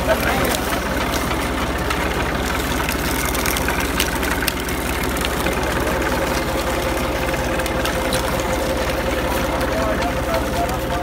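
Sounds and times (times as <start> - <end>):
sugarcane crusher running: 0.0 - 11.0.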